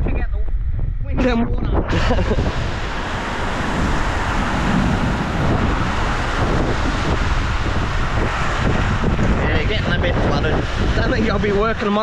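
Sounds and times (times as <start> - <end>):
storm wind: 0.0 - 12.0
wind rumbling on microphone: 0.0 - 12.0
rain: 2.0 - 12.0.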